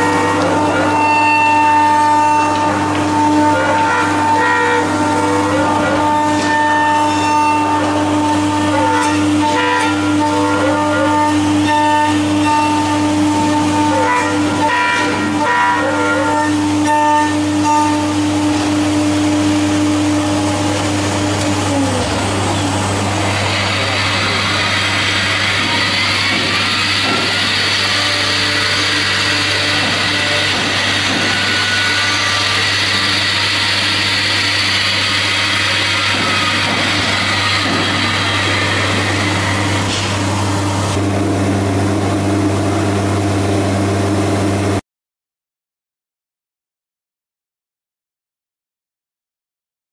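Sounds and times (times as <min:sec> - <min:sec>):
router spindle cutting wood: 0:00.0 - 0:41.2
dust extraction hiss and hum: 0:00.0 - 0:44.8.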